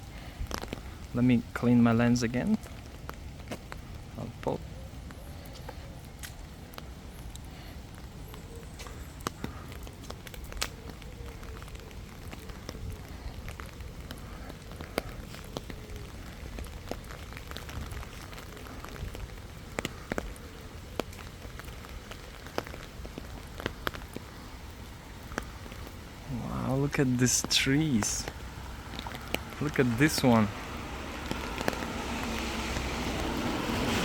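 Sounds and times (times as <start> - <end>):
footsteps on crackling debris: 2.4 - 33.4.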